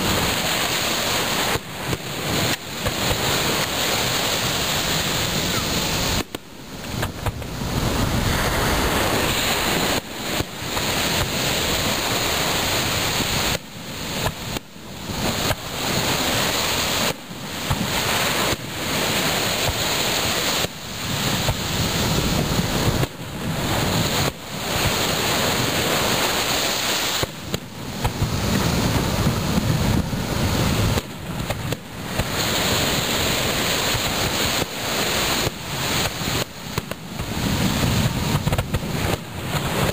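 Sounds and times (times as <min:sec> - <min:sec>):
breaking surf: 0:00.0 - 0:39.9
fireworks bursting: 0:00.0 - 0:39.9
wind on microphone: 0:00.0 - 0:39.9.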